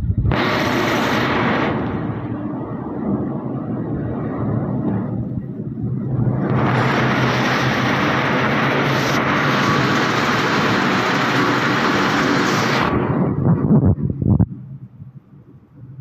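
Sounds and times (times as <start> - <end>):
loud steady rushing noise: 0.0 - 16.0
low motor hum: 0.0 - 16.0.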